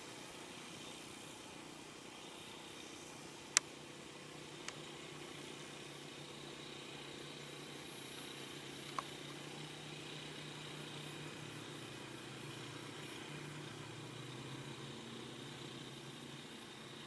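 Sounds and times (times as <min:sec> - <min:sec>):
model airplane motor drone: 0:00.0 - 0:17.0.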